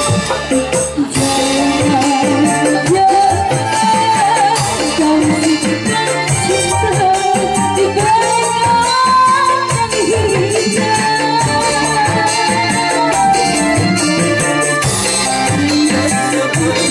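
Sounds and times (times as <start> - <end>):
hand drum: 0.0 - 16.9
live band: 0.0 - 16.9
woman singing through a microphone: 0.0 - 16.9.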